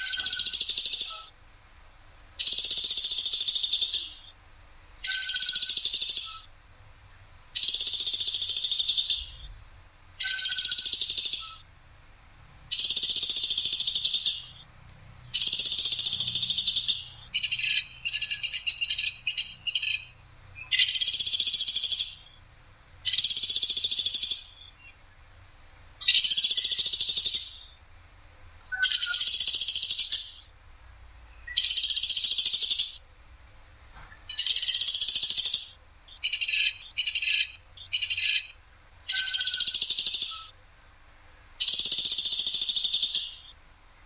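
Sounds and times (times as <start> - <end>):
woodpecker rattling calls: 0.0 - 1.4, 2.1 - 4.4, 5.0 - 6.6, 7.2 - 25.0, 26.0 - 27.8, 28.6 - 30.6, 31.3 - 33.1, 34.2 - 40.6, 41.3 - 43.6.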